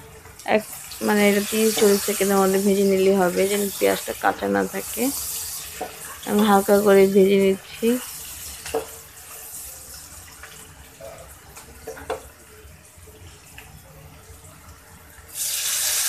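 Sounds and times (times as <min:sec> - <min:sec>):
onions sizzling in oil: 0:00.0 - 0:16.0
water hissing in hot oil: 0:00.0 - 0:16.0.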